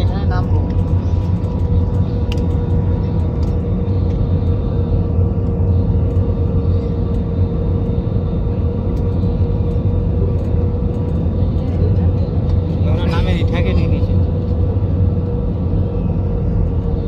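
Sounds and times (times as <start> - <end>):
airliner cabin rumble: 0.0 - 17.0
jet engine whine: 0.0 - 17.0.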